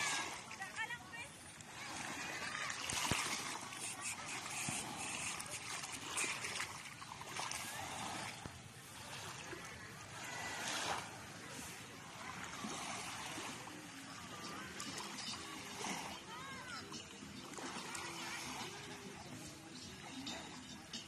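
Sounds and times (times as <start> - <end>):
faint voices: 0.0 - 21.0
small waves lapping on beach: 0.0 - 21.0.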